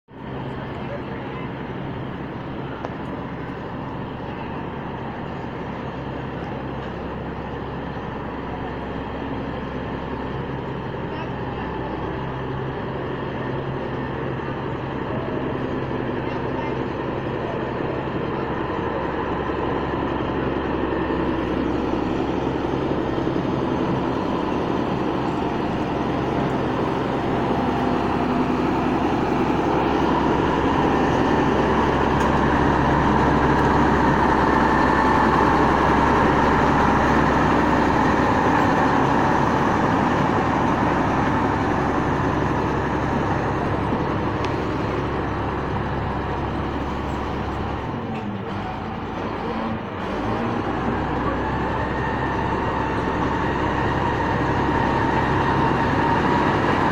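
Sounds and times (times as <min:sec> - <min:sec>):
excavator diesel engine running: 0:00.1 - 0:56.9.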